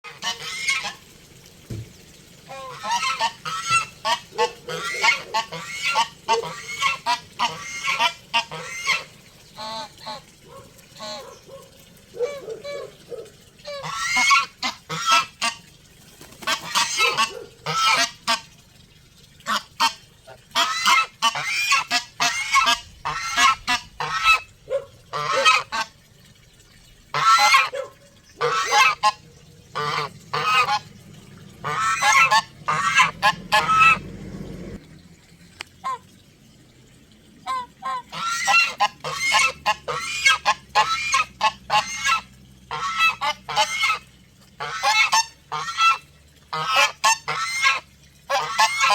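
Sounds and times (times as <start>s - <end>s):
geese honking: 0.0s - 1.0s, 2.5s - 11.5s, 12.2s - 15.6s, 16.5s - 18.4s, 19.5s - 25.9s, 27.1s - 27.8s, 28.4s - 34.8s, 37.4s - 44.0s, 44.6s - 48.9s.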